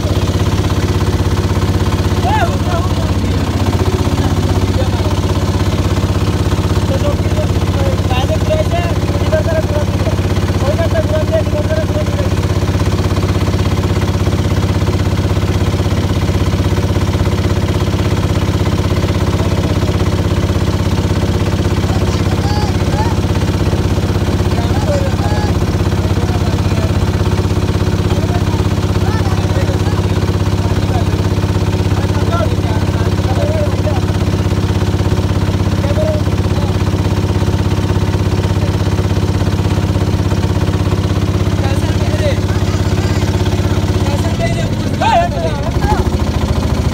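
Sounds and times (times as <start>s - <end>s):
boat engine chugging: 0.0s - 46.9s.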